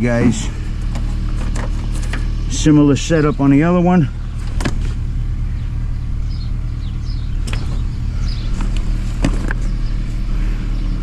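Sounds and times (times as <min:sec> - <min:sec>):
low mechanical hum: 0:00.0 - 0:11.0
small birds chirping: 0:00.0 - 0:11.0.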